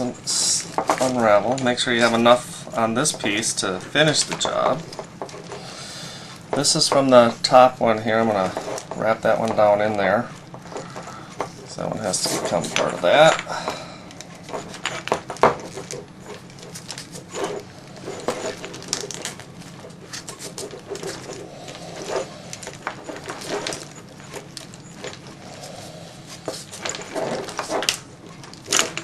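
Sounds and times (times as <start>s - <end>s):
wrap crinkling and rustling: 0.0s - 29.0s.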